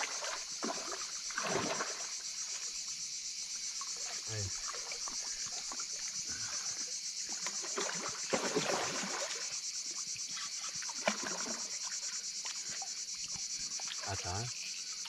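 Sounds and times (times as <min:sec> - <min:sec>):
water splashing and sloshing: 0:00.0 - 0:03.0, 0:03.7 - 0:15.0
insects chirping: 0:00.0 - 0:15.0.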